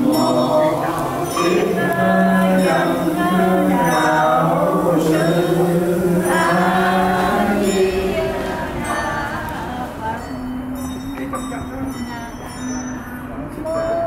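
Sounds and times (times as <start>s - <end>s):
slow vocal music: 0.0s - 14.0s.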